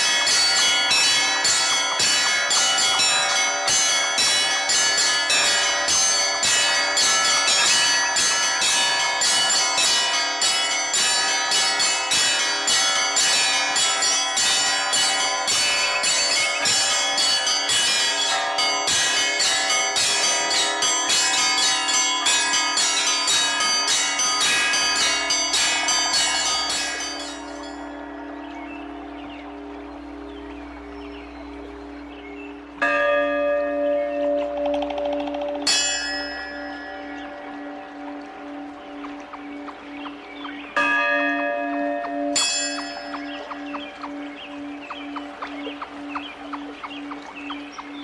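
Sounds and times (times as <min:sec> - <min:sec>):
church bells ringing in a peal: 0:00.0 - 0:30.8, 0:32.8 - 0:48.0
bells humming: 0:00.0 - 0:48.0.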